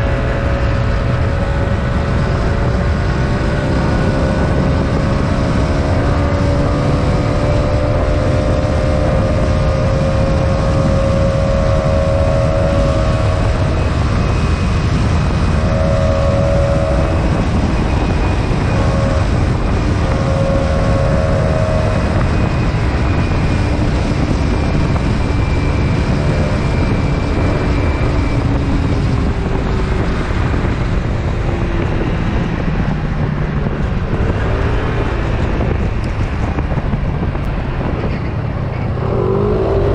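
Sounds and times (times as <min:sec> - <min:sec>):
scooter engine droning: 0:00.0 - 0:39.9
wind buffeting microphone: 0:00.0 - 0:39.9.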